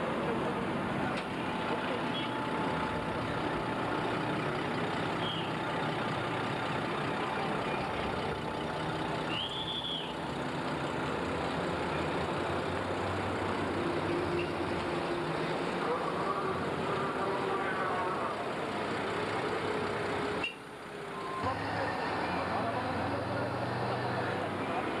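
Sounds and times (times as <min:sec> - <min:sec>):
bus diesel engine rumbling: 0:00.0 - 0:25.0.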